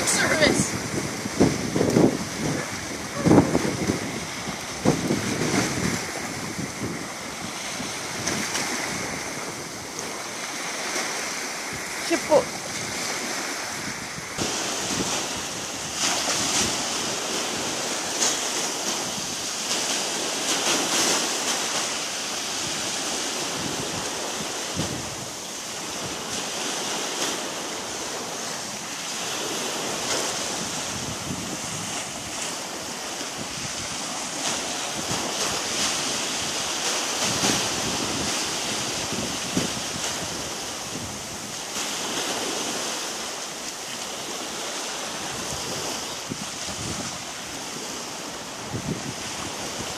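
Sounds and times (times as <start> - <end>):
small waves on sandy shore: 0.0 - 49.9.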